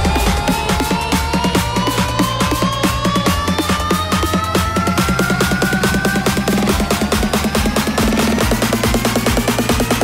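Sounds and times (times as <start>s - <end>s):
deep bass line: 0.0s - 10.0s
electronic dance music: 0.0s - 10.0s
fast drum beat: 0.0s - 10.0s
rising synth tone: 0.0s - 10.0s.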